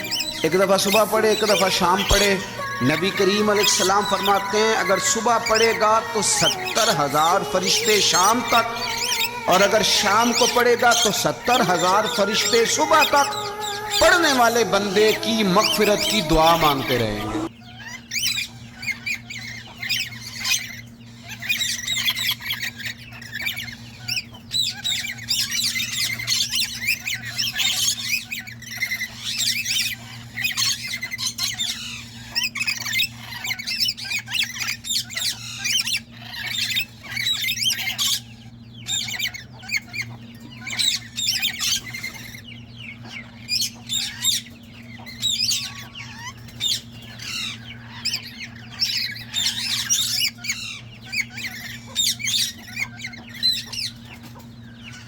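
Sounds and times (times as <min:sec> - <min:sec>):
birds squawking and chirping: 0:00.0 - 0:55.0
low electrical hum: 0:00.0 - 0:55.0.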